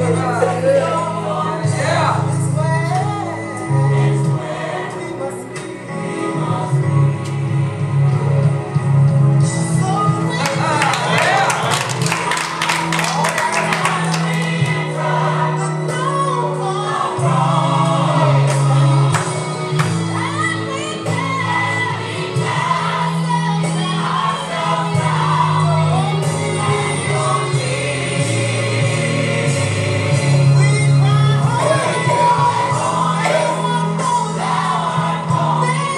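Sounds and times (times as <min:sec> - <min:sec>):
choir singing gospel music: 0:00.0 - 0:35.9.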